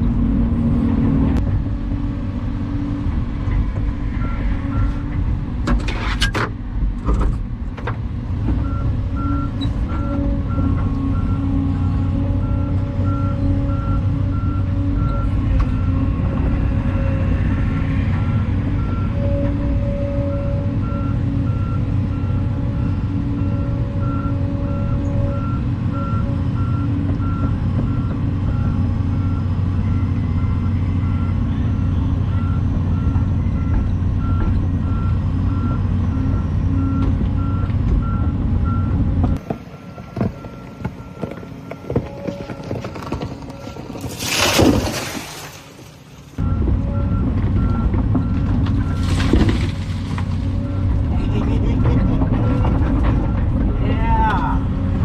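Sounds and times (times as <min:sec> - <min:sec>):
excavator diesel engine running: 0:00.0 - 0:05.8, 0:06.5 - 0:44.0, 0:46.0 - 0:55.0.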